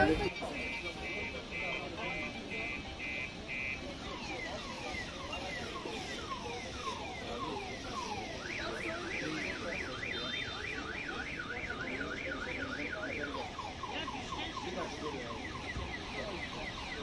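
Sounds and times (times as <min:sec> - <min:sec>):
car alarm: 0:00.0 - 0:17.0.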